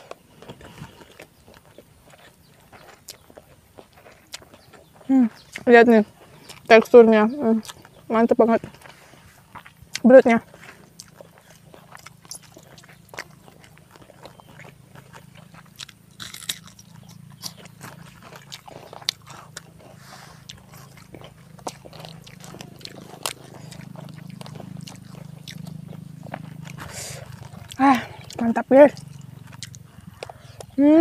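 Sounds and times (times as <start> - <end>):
crunchy food chewing: 0.0 - 31.0.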